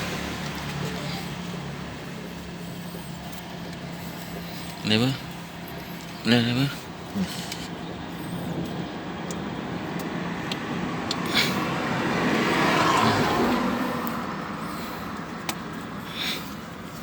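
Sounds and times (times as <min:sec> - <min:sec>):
low engine hum: 0:00.0 - 0:17.0
vehicle passing by: 0:00.0 - 0:17.0.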